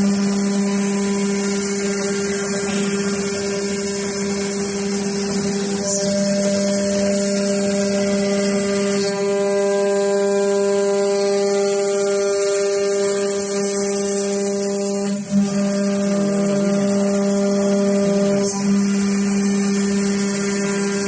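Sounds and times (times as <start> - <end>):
cnc machine milling metal: 0.0 - 21.0.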